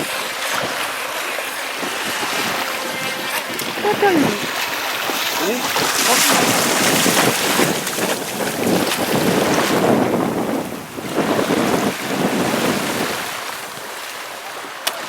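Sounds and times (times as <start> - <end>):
sea waves: 0.0 - 15.0
wind buffeting microphone: 1.6 - 14.0.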